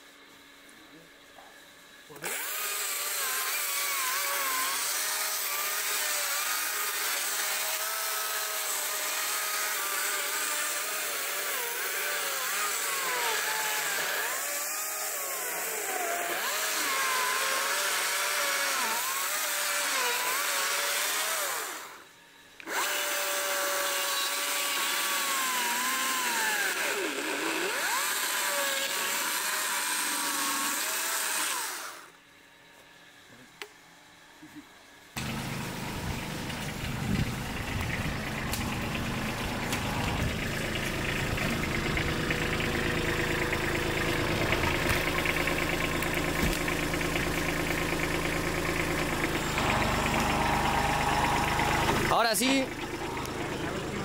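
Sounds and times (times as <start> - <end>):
chainsaw cutting into log: 2.1 - 32.2, 35.2 - 53.4.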